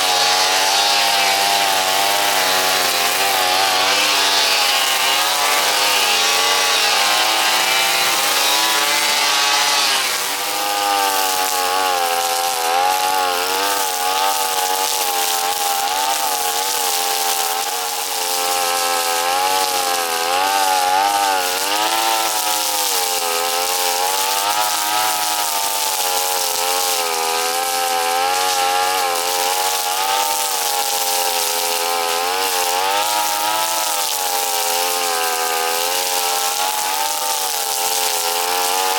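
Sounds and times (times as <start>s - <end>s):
brush cutter engine: 0.0s - 38.9s.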